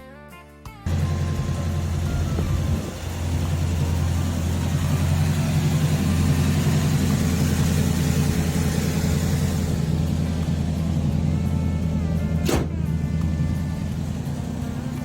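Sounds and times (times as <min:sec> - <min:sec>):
car engine idling: 0:00.9 - 0:15.0.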